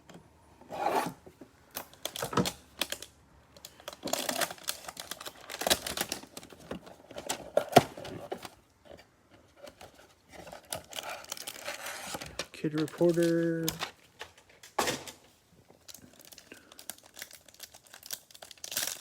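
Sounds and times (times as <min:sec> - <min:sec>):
cardboard and plastic wrap rustling: 0:03.7 - 0:19.0.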